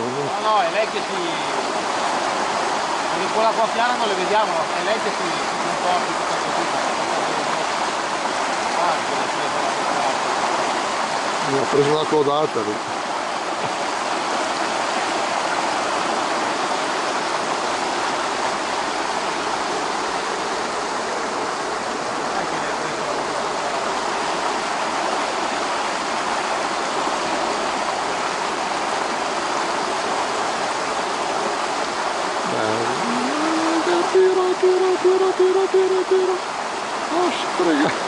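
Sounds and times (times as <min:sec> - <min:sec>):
stream water flowing: 0:00.0 - 0:38.0.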